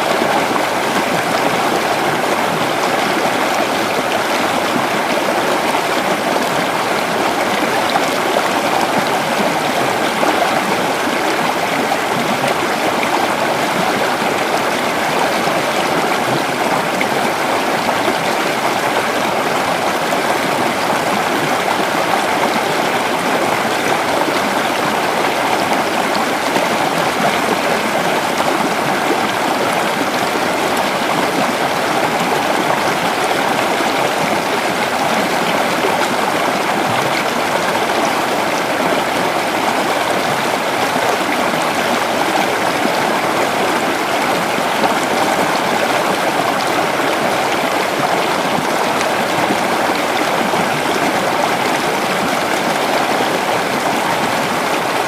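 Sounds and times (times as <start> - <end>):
creek water gurgling over rocks: 0.0 - 55.0.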